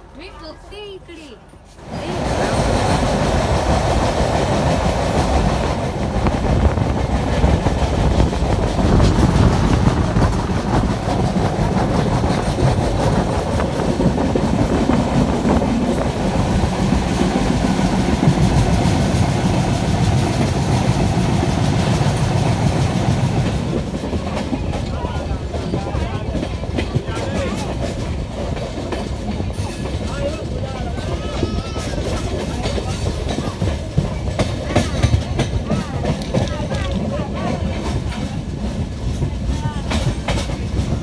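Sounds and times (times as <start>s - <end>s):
train wheels rumbling on rails: 0.0s - 41.0s
wheels clickety-clack: 1.8s - 41.0s.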